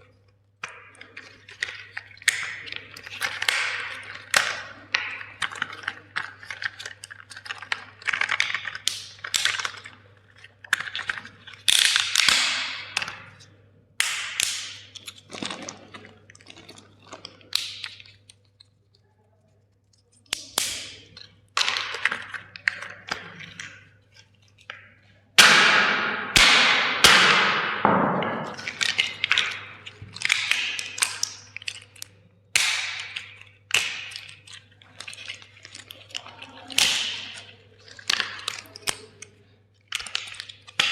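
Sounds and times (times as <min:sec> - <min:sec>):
toy plastic cracking and snapping: 0:00.7 - 0:18.8, 0:20.2 - 0:24.9, 0:28.5 - 0:40.9.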